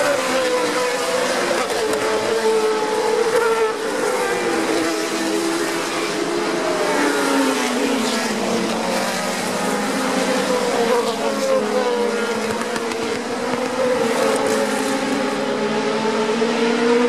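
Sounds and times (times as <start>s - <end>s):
racing cars passing at high revs: 0.0s - 17.0s.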